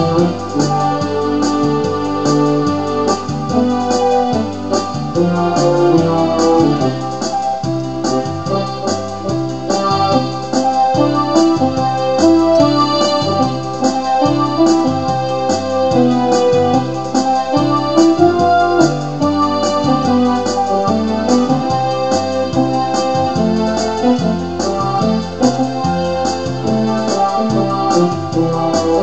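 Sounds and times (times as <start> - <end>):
bass line: 0.0 - 29.0
electronic keyboard tune: 0.0 - 29.0
steady drum beat: 0.0 - 29.0.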